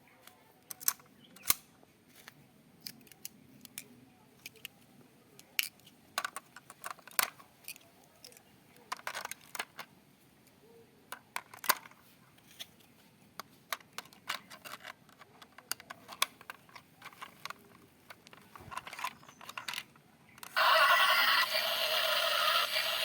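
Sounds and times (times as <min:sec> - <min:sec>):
plastic parts clicking and rattling: 0:00.2 - 0:04.8, 0:05.4 - 0:09.9, 0:11.1 - 0:20.6.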